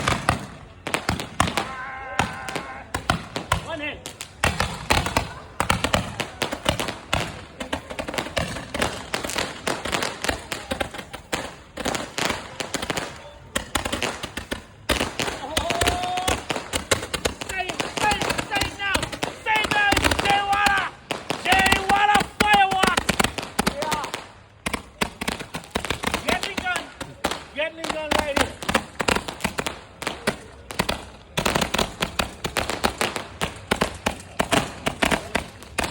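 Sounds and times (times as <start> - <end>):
firework cake firing cracking shots: 0.0 - 35.9.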